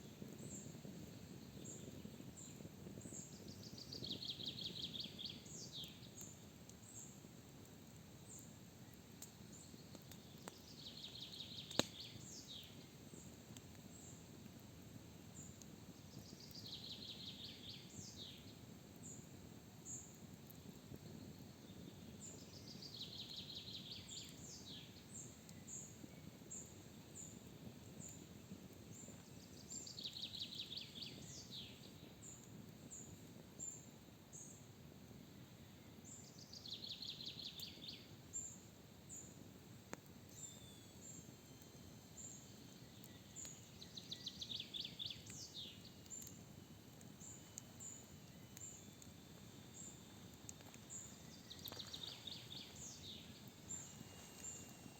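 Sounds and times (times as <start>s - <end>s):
faint low hiss: 0.0s - 54.9s.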